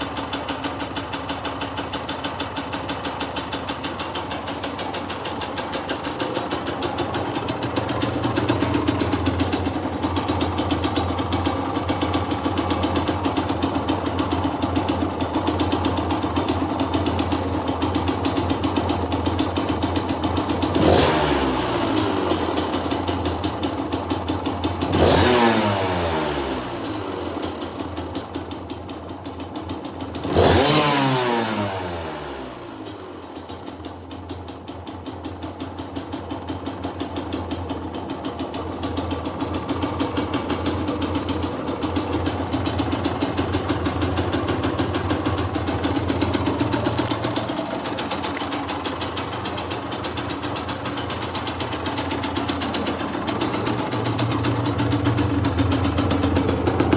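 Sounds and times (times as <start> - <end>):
motorcycle engine revving and idling: 0.0 - 56.9.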